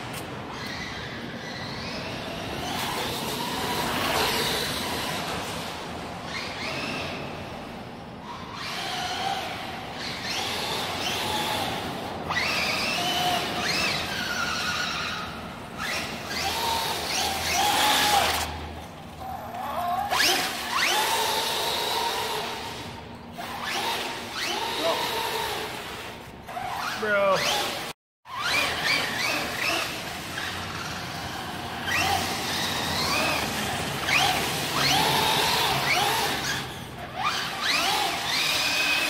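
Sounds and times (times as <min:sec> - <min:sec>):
toy truck electric motors whining: 0:00.0 - 0:39.0.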